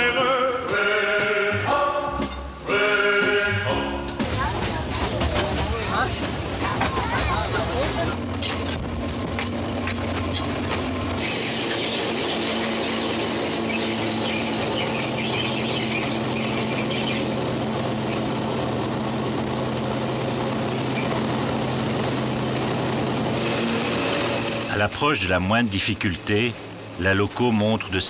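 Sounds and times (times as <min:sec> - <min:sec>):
diesel locomotive engine drone: 0:00.0 - 0:28.0
rattle of train wheels: 0:04.1 - 0:28.0.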